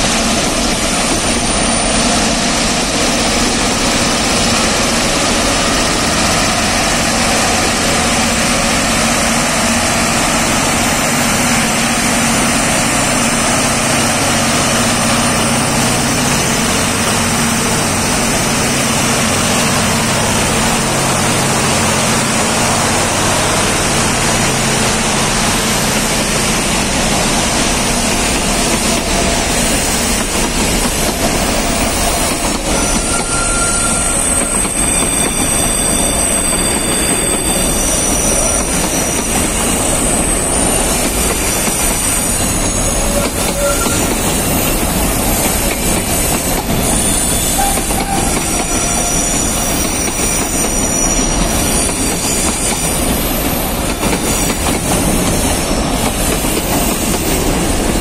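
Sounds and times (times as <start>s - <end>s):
diesel locomotive engines droning: 0.0s - 58.0s
freight train wagons rumbling: 0.0s - 58.0s.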